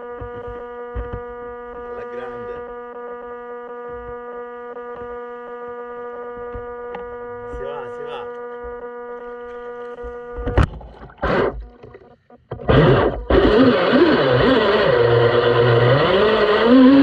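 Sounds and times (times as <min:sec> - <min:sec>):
electric motor humming: 0:00.0 - 0:17.0
motor rushing bursts: 0:00.4 - 0:17.0.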